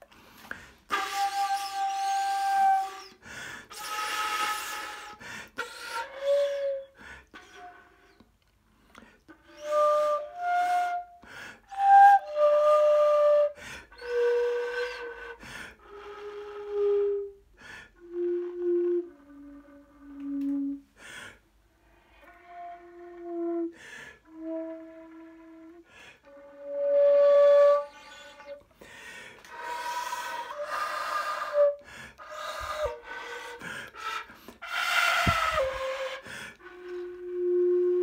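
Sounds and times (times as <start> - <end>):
breathy flute notes: 0.0 - 8.4, 9.0 - 38.0.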